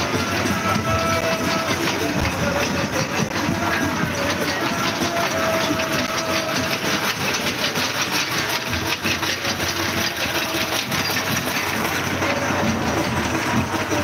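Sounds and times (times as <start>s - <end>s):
engine idling with clatter: 0.0s - 14.0s
street din: 0.0s - 14.0s.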